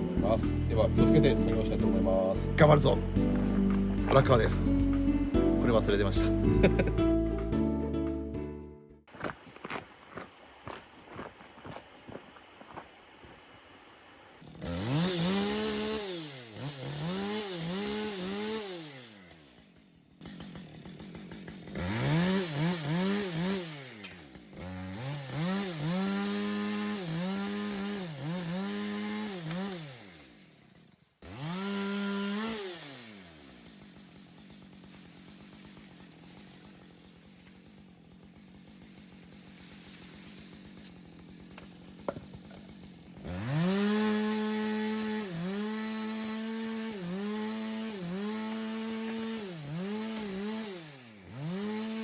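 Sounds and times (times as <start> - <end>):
chainsaw revving: 0.0 - 7.5, 14.4 - 52.0.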